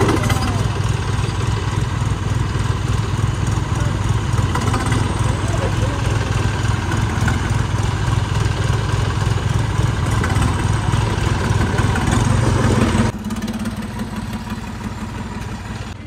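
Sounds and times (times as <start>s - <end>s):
tractor diesel engines idling: 0.0s - 16.0s.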